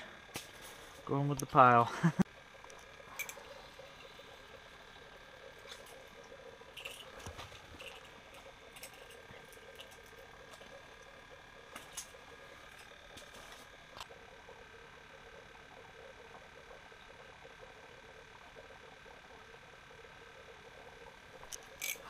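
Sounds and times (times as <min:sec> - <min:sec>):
steady faint hum: 0:00.0 - 0:22.0.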